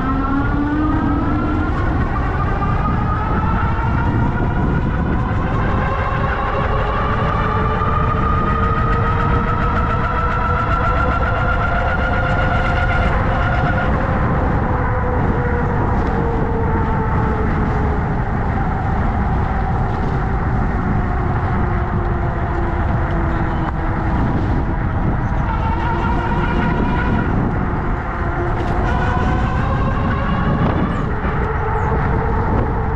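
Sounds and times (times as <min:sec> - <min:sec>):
motorized scooter motor whine: 0:00.0 - 0:32.9
wind and road noise: 0:00.0 - 0:32.9.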